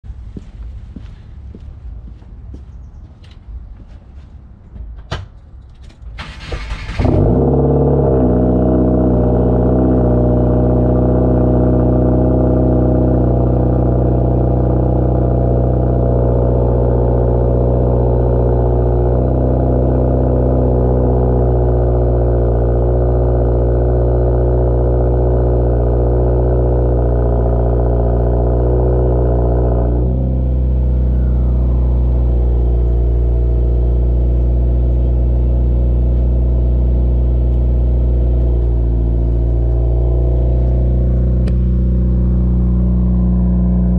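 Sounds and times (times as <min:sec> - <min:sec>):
car engine idling: 0:06.2 - 0:43.9.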